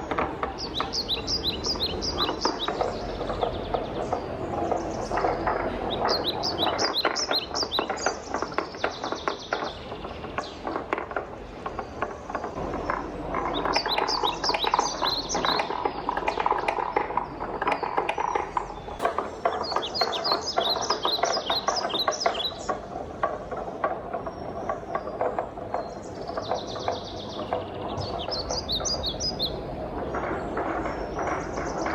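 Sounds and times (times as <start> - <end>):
wooden balls rolling and clacking: 0.0 - 31.9.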